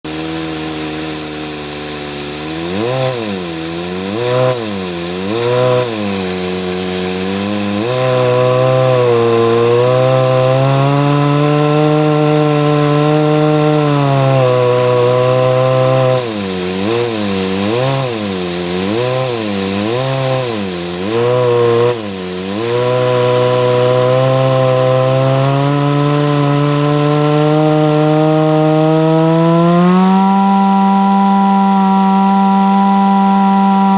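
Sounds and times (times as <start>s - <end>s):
small engine buzzing hum: 0.0s - 33.9s.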